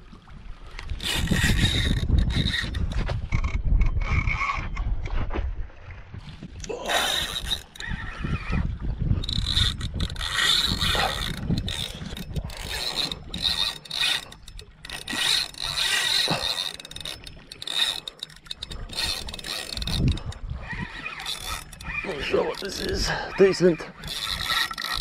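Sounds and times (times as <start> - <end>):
fishing reel gears whirring: 0.6 - 4.9, 6.6 - 25.0.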